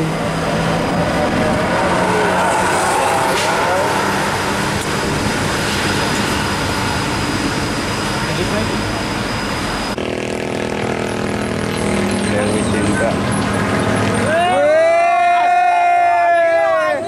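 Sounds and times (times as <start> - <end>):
bus passing: 0.0 - 17.0.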